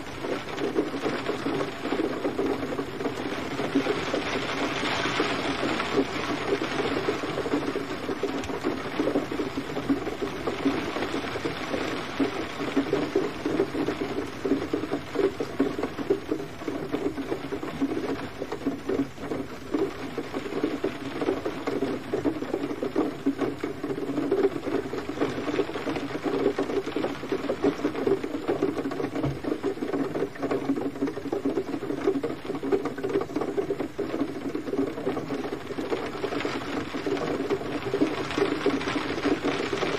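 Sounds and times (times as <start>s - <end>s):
gentle rain pattering: 0.0s - 39.9s.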